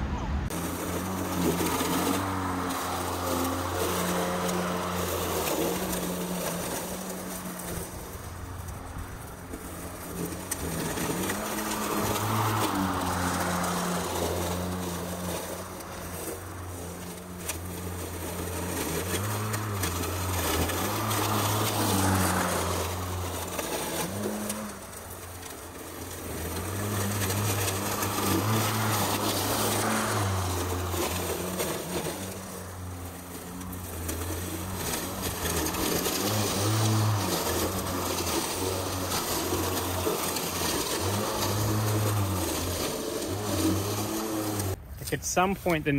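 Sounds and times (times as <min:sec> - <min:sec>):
lawn mower motor hum: 0:00.4 - 0:45.9.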